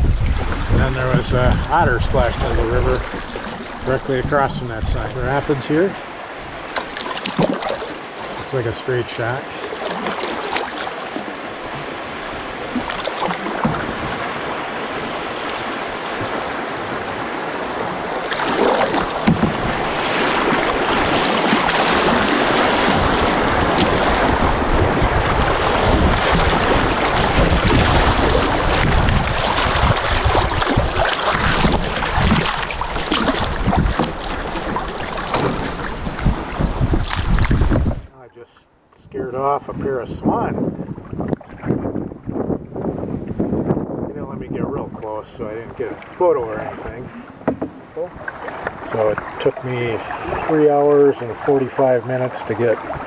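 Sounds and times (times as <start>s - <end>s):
wind rumble on microphone: 0.0s - 6.6s, 11.4s - 38.4s, 39.0s - 53.0s
water rushing over rapids: 0.0s - 38.1s, 45.4s - 53.0s.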